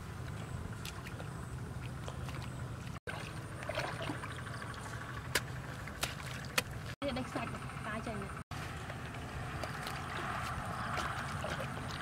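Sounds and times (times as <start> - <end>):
water sloshing from wading: 0.0 - 7.7, 8.3 - 12.0.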